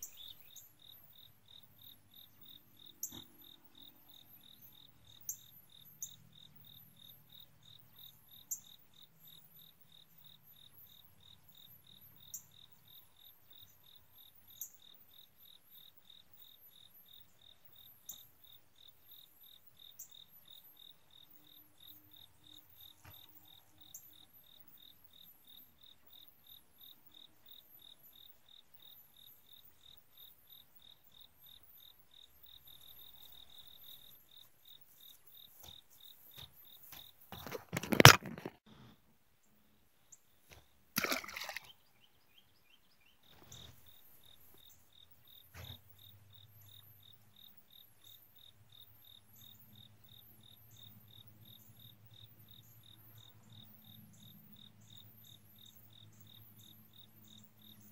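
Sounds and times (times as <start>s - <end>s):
insects chirping: 0.0s - 38.6s, 40.0s - 57.9s.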